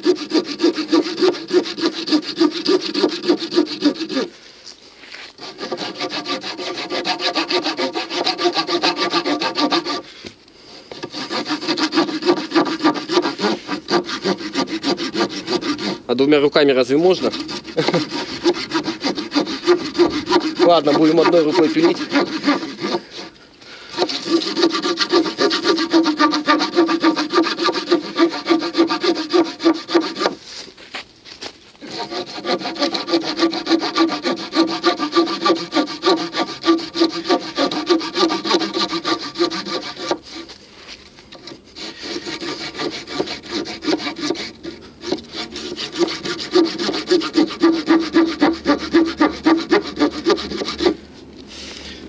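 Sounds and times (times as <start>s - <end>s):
hand saw cutting wood: 0.0s - 4.4s, 5.0s - 30.7s, 31.8s - 51.0s.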